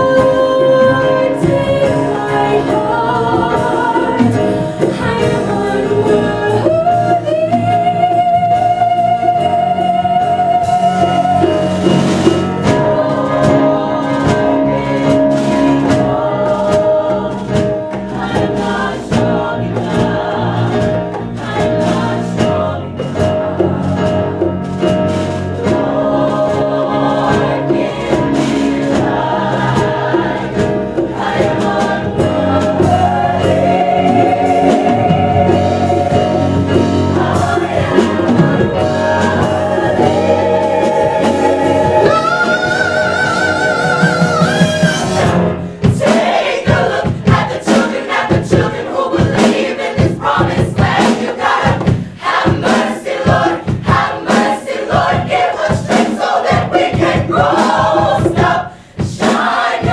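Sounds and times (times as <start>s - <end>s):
choir singing with accompaniment: 0.0s - 59.9s.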